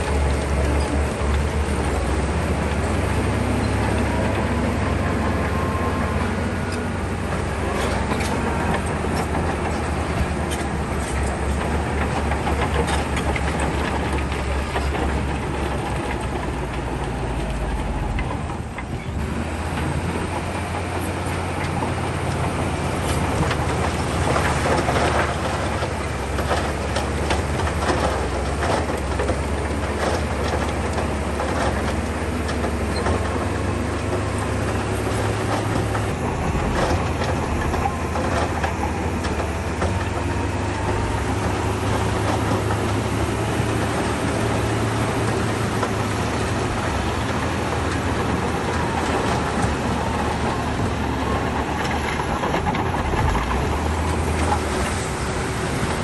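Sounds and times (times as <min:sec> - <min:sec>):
bulldozer diesel engine droning: 0:00.0 - 0:56.0
tracks and stone clanking: 0:00.0 - 0:56.0.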